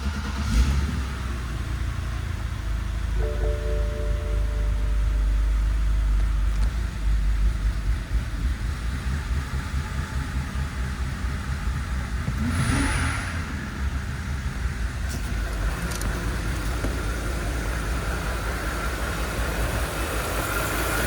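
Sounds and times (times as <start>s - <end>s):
car engine low rumble: 0.0s - 21.0s.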